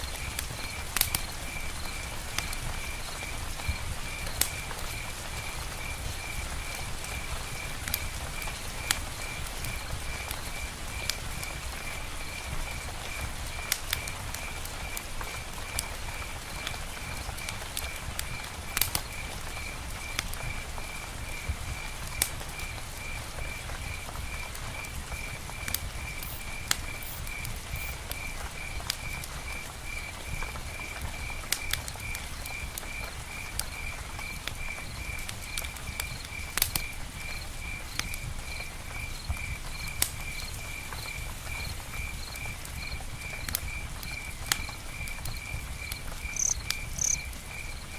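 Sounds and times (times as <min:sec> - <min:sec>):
fire ticks and pops: 0:00.0 - 0:47.9.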